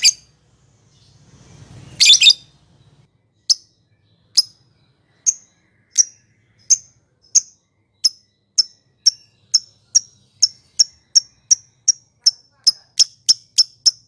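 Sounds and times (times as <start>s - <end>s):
lovebird chirping: 0.0s - 14.0s.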